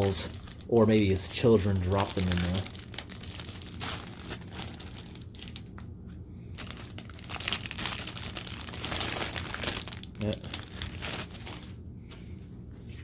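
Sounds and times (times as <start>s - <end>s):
foil envelope crinkling: 0.0s - 5.8s, 6.5s - 11.8s.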